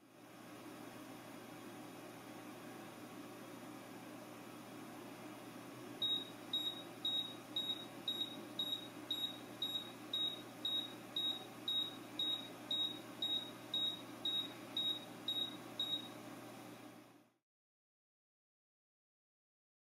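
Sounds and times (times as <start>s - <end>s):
faint steady hum: 0.0s - 17.4s.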